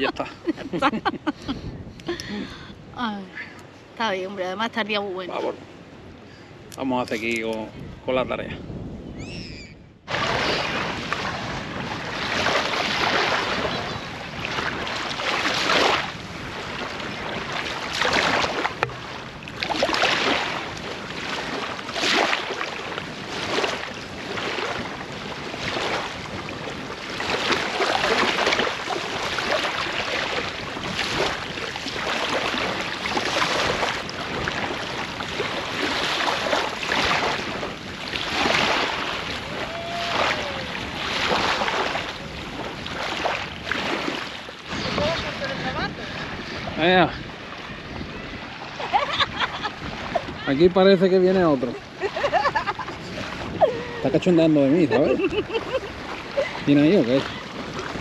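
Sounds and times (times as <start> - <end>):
small waves washing onto shore: 0.0 - 8.9, 10.0 - 58.0
wind on microphone: 0.0 - 58.0.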